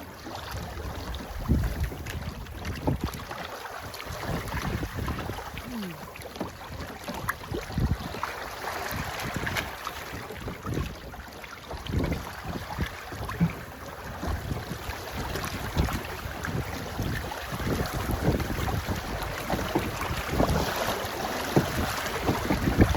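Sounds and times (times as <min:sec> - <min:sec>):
wind buffeting microphone: 0:00.5 - 0:03.3, 0:04.0 - 0:06.1, 0:06.9 - 0:22.9
water rushing: 0:03.8 - 0:10.8, 0:11.5 - 0:22.9.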